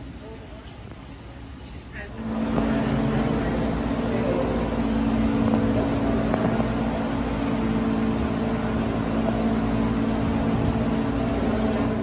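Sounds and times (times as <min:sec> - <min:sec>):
mechanical hum: 0:00.0 - 0:12.0
noisy rush: 0:00.8 - 0:12.0.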